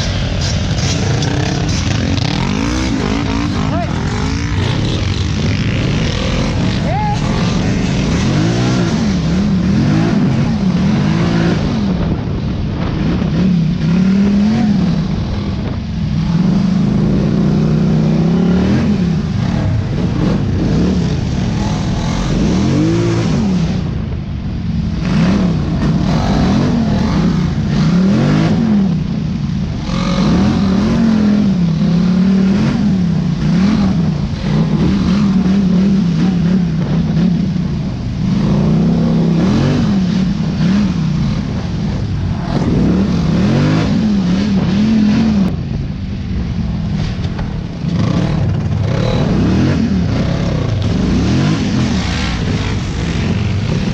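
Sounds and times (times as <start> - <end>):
off-road vehicle engine revving: 0.0 - 24.1, 24.9 - 45.6, 47.0 - 53.9.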